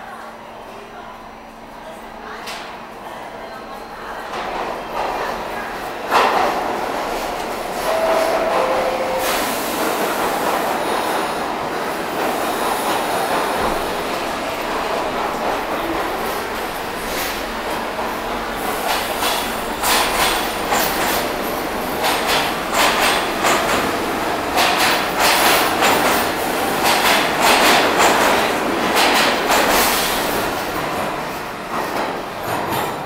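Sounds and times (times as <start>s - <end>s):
subway train wheels clacking: 0.1s - 33.0s.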